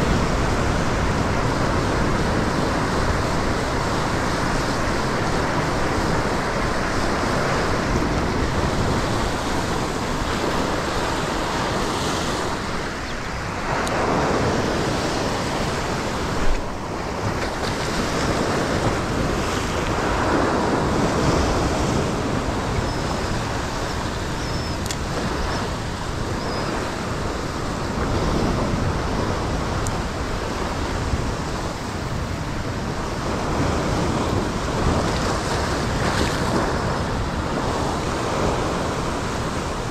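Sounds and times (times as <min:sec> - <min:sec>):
ocean swell washing over rocks: 0:00.0 - 0:39.9.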